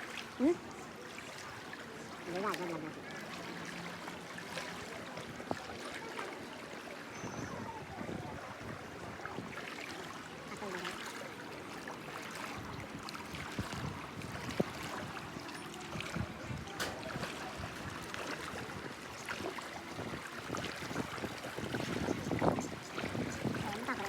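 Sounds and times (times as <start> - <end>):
floodwater sloshing and splashing: 0.0 - 24.0
faint voices: 0.1 - 24.0.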